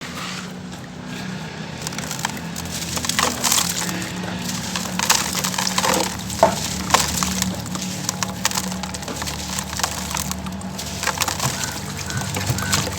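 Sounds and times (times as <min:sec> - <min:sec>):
charcoal crunching and crackling: 0:01.0 - 0:12.9.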